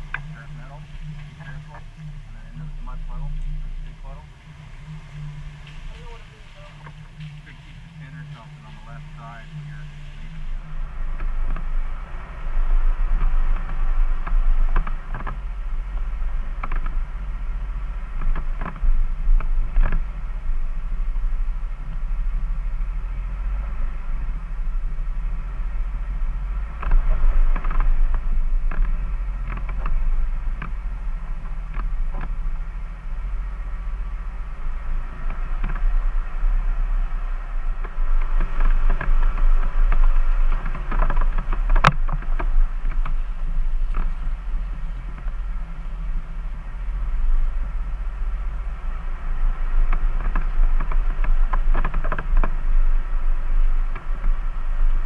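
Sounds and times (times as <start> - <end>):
body and suspension creaks: 0.0 - 55.0
engine running low: 0.0 - 55.0.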